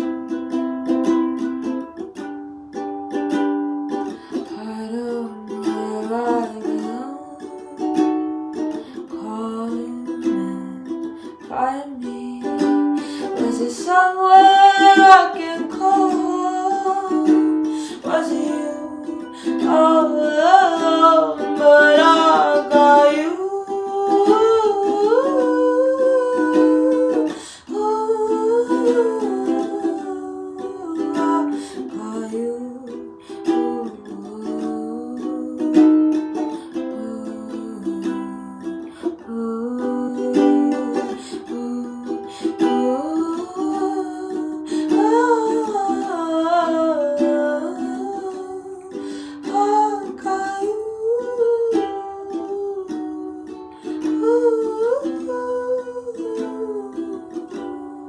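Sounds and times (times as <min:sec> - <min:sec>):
person singing wordless melody: 0:00.0 - 0:58.0
plucked and strummed ukulele: 0:00.0 - 0:58.0.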